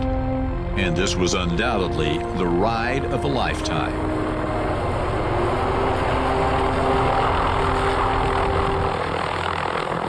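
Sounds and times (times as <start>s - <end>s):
helicopter flying overhead: 0.0s - 10.0s.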